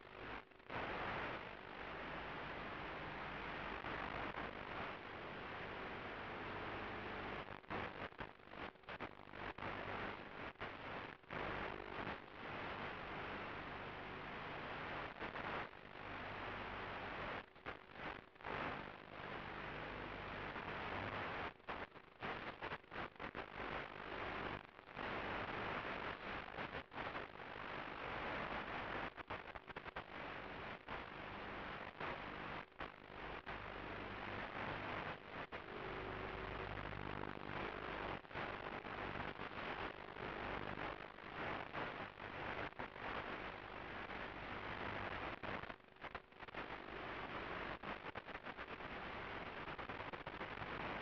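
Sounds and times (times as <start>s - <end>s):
static hiss: 0.0s - 51.0s.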